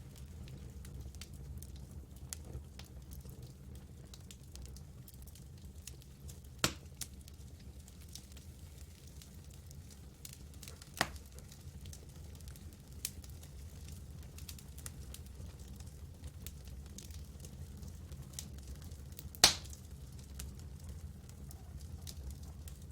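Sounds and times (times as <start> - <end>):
campfire crackling: 0.1 - 22.9.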